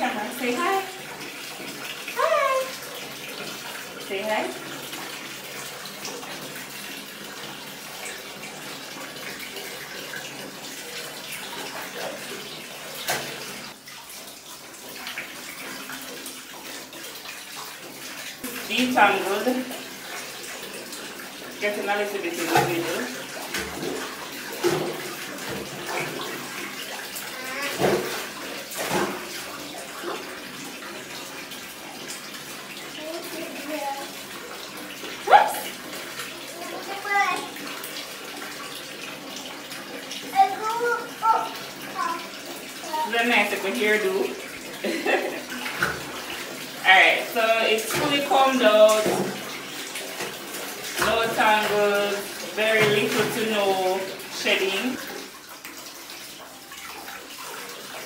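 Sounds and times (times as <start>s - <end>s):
water running from tap into tub: 0.0s - 58.0s.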